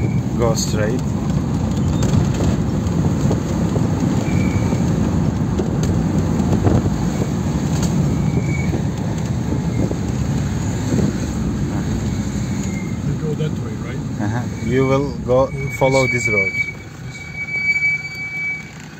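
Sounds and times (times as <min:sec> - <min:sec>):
engine and road rumble: 0:00.0 - 0:18.9
vehicle body rattling: 0:00.0 - 0:18.9.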